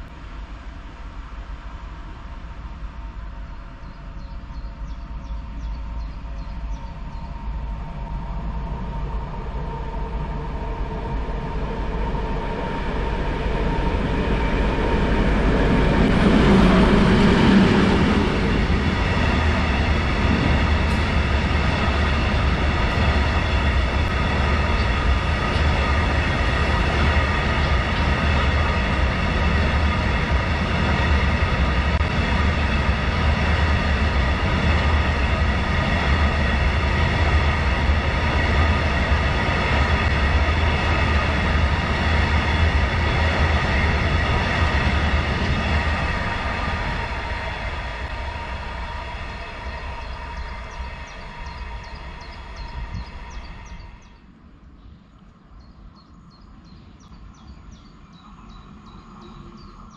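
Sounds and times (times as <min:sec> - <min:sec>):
freight train locomotive passing: 0:00.0 - 0:59.9.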